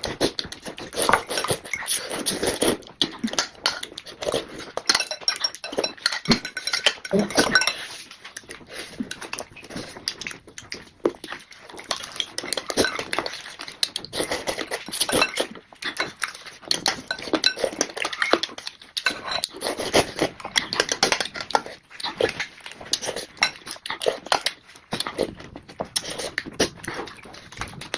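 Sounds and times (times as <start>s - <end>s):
person chewing food: 0.0s - 27.9s.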